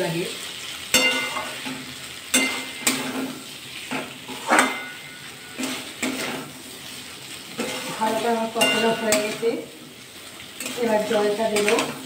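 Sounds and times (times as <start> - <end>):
soft sizzle of frying: 0.0 - 12.0
metal spatula scraping a pan: 0.9 - 9.6, 10.4 - 12.0.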